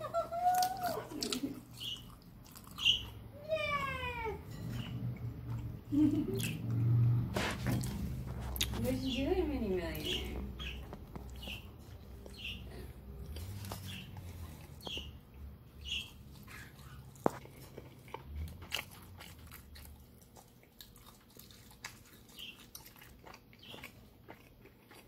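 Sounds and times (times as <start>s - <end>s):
close-up chewing: 0.3s - 3.2s, 4.5s - 9.0s, 9.9s - 25.0s.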